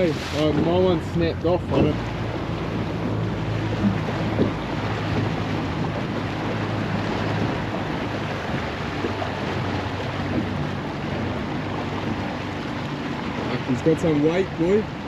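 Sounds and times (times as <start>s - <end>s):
boat motor humming: 0.0s - 15.0s
sea wash: 0.0s - 15.0s
wind buffeting microphone: 0.0s - 15.0s.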